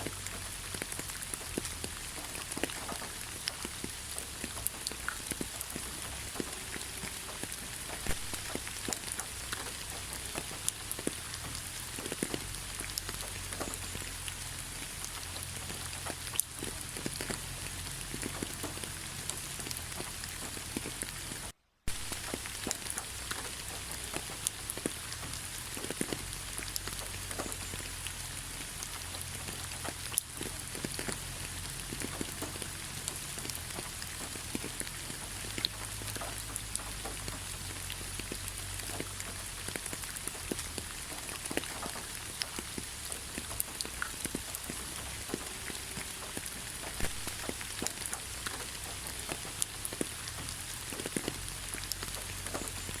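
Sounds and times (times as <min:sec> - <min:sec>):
raindrops ticking: 0:00.0 - 0:53.0
steady rain falling: 0:00.0 - 0:53.0.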